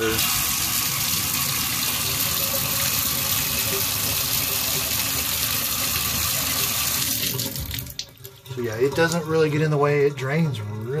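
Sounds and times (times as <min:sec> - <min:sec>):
water splashing into bathtub: 0:00.0 - 0:09.5.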